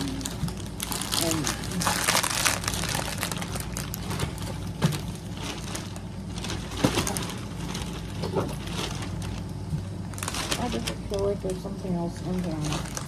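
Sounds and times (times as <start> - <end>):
low background hum: 0.0 - 13.0
plastic packaging rustling: 0.0 - 13.0.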